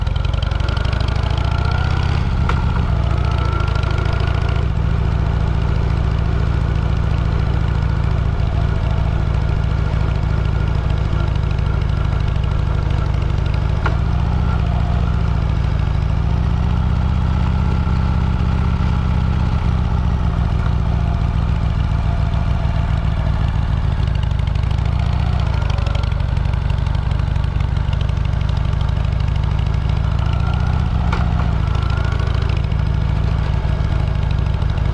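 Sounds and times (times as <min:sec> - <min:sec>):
vehicle engine rumbling: 0:00.0 - 0:34.9.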